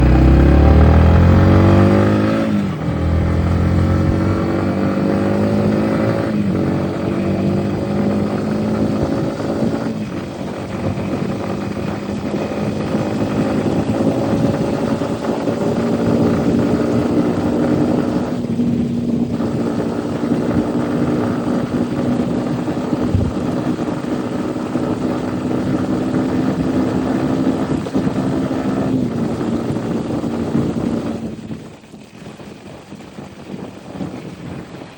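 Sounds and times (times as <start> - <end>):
motorcycle engine revving: 0.0 - 31.5.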